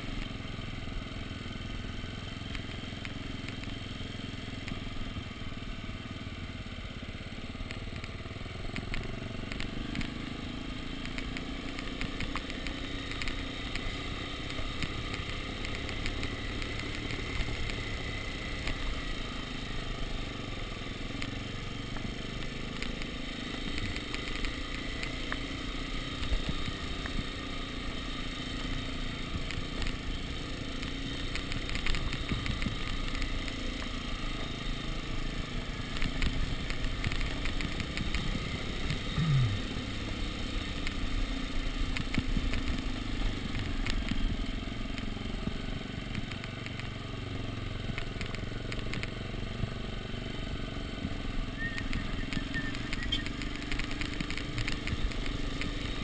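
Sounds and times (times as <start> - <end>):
bike rattling on cobblestones: 0.0 - 56.0
dirt bike engine running: 0.0 - 56.0.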